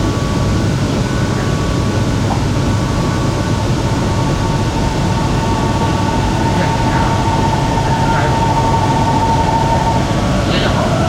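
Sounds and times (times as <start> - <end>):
high train whine: 0.0 - 11.0
train rumbling on track: 0.0 - 11.0.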